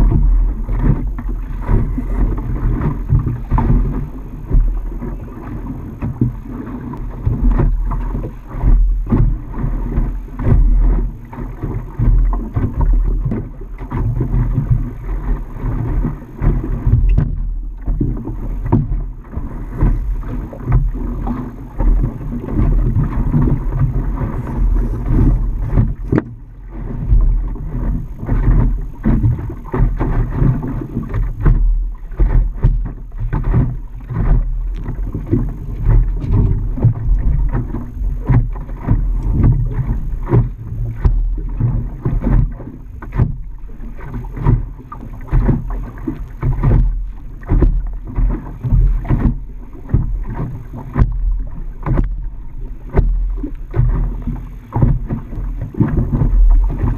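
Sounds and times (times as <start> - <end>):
water slapping against boat hull: 0.0 - 56.9
wind buffeting microphone: 0.0 - 56.9.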